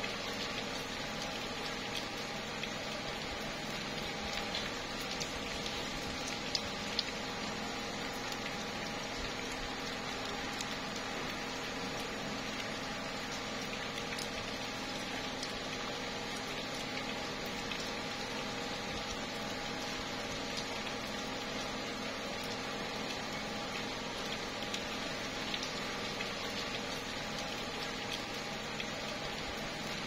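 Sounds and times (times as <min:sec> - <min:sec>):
rain on leaves: 0:00.0 - 0:30.0
water drips ticking: 0:00.0 - 0:30.0.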